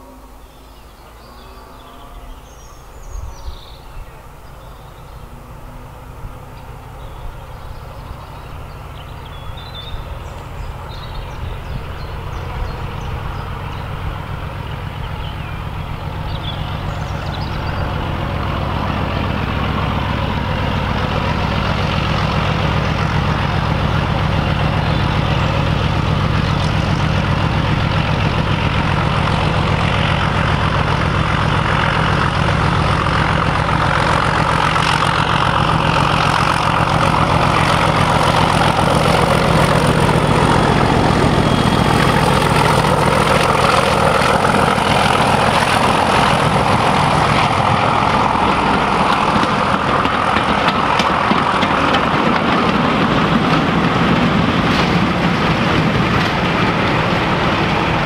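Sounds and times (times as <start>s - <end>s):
diesel locomotive engine throbbing: 0.0s - 58.0s.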